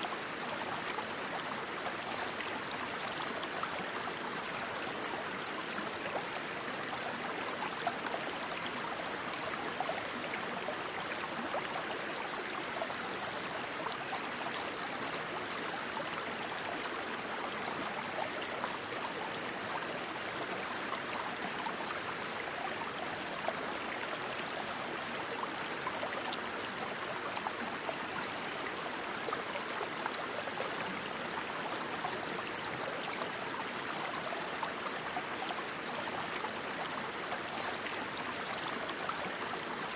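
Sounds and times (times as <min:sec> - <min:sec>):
water rushing like a stream: 0:00.0 - 0:39.9.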